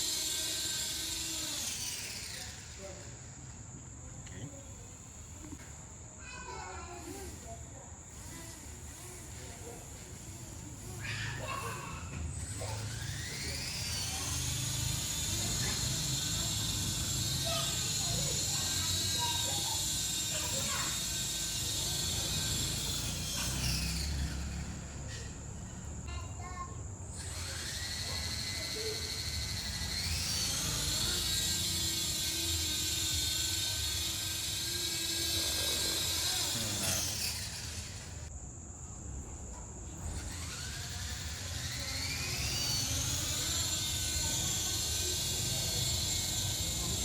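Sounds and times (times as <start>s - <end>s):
electric motor and rotor whine: 0.0s - 47.0s.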